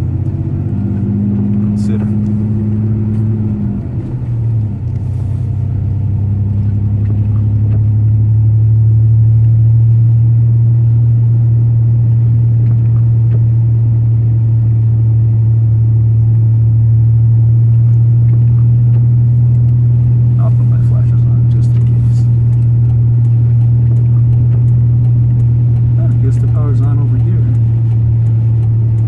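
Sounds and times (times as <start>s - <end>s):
truck engine and tyres droning: 0.0s - 29.0s.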